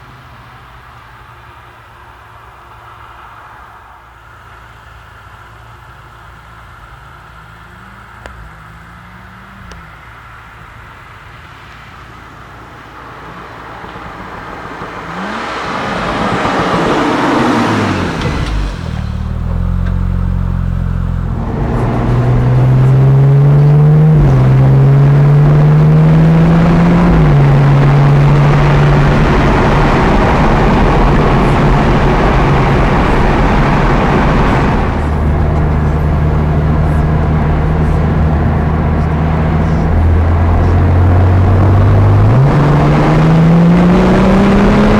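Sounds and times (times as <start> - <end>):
car engine accelerating: 5.5 - 11.0, 13.2 - 44.9.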